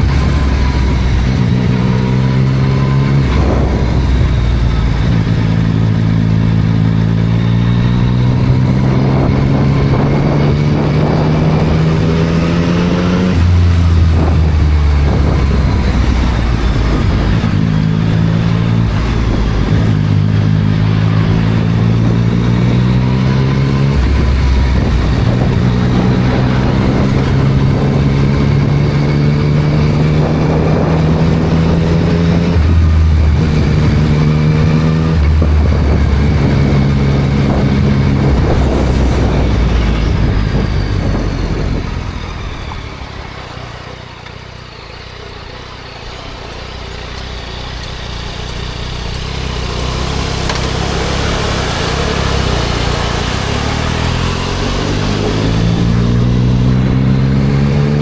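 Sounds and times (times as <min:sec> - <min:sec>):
motorcycle engine revving: 0:00.0 - 0:58.0
wind and road hiss: 0:00.0 - 0:58.0.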